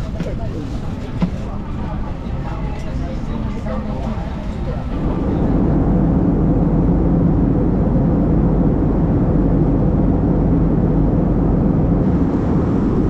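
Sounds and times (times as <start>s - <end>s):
aircraft cabin engine roar: 0.0s - 13.0s.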